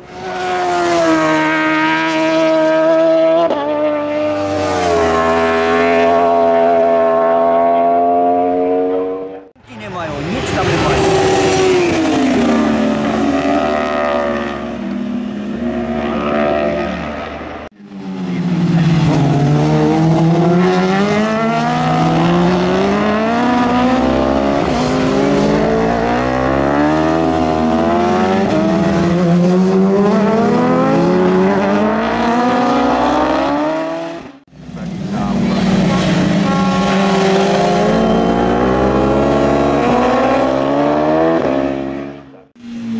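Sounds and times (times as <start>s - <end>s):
racing motorcycle engine revving: 0.0s - 9.5s, 10.2s - 42.9s.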